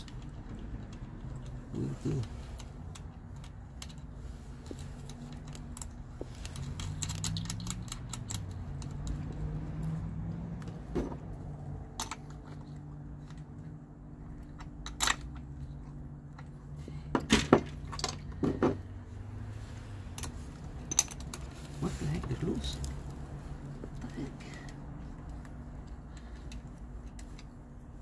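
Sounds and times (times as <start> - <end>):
wire connectors clicking and rattling: 0.0 - 18.9, 20.1 - 28.0.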